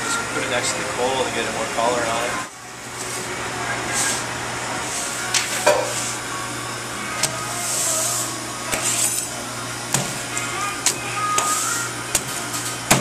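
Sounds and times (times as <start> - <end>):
kitchen ventilation hum: 0.0 - 13.0.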